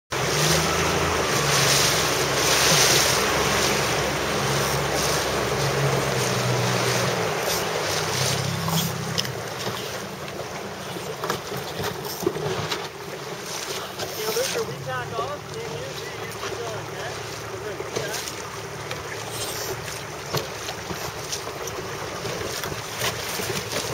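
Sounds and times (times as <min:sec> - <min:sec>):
low motor hum: 0:00.1 - 0:23.9
short splashes or knocks: 0:00.1 - 0:23.9
water rushing past boat hull: 0:00.1 - 0:23.9.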